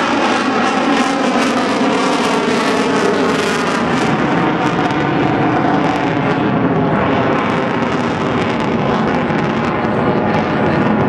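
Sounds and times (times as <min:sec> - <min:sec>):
crackling jet engine roar: 0:00.0 - 0:11.0.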